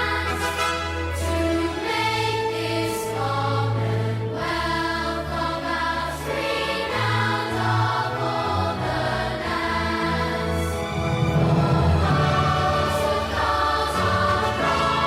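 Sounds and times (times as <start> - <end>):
choir singing held notes: 0.0 - 15.0
sustained low accompaniment: 0.0 - 15.0.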